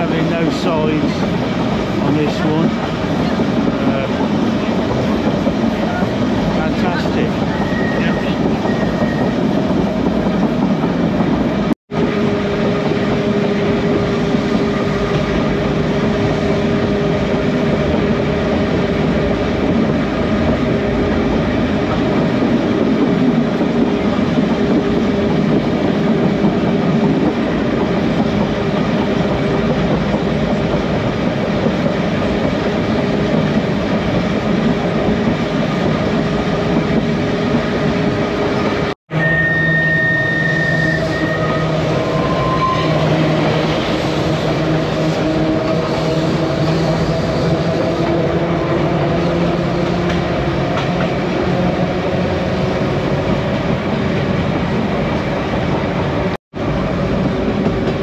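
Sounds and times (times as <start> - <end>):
tram wheels rumbling on rails: 0.0 - 58.0.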